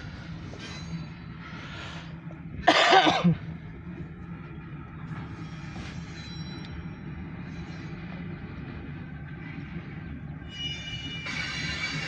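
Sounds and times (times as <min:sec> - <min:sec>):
diesel locomotive humming: 0:00.0 - 0:12.0.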